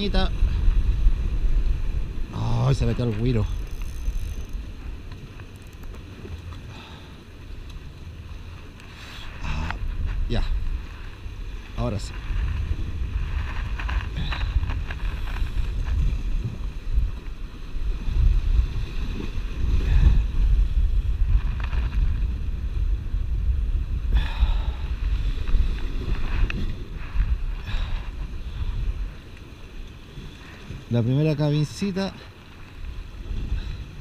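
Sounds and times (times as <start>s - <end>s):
wind buffeting microphone: 0.0s - 31.4s.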